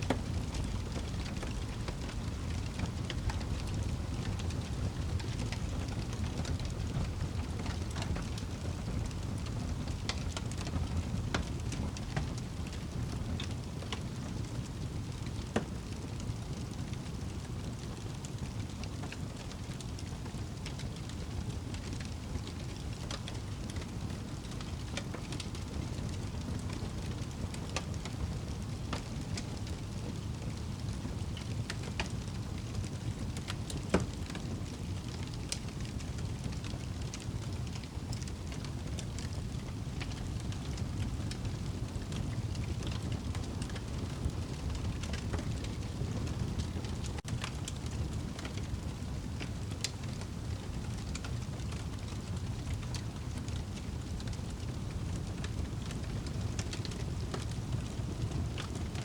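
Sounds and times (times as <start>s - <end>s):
wood fire crackling in fireplace: 0.0s - 59.0s.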